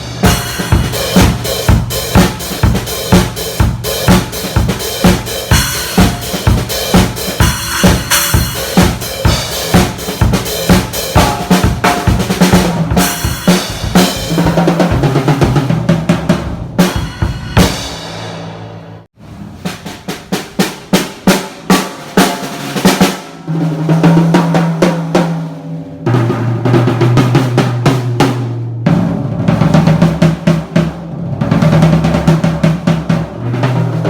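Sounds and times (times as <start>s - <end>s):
drum kit playing a beat: 0.0s - 34.0s.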